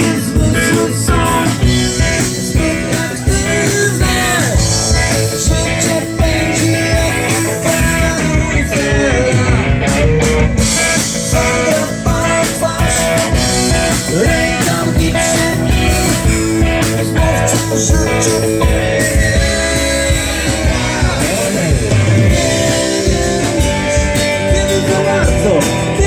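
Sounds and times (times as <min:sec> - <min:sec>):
electric guitar: 0:00.0 - 0:26.0
person singing: 0:00.0 - 0:26.0
rock band playing: 0:00.0 - 0:26.0.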